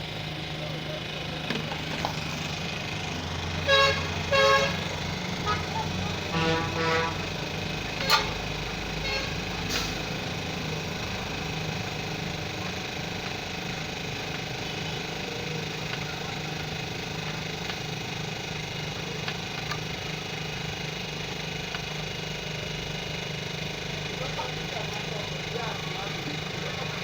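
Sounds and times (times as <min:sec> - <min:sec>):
engine hum: 0:00.0 - 0:27.0.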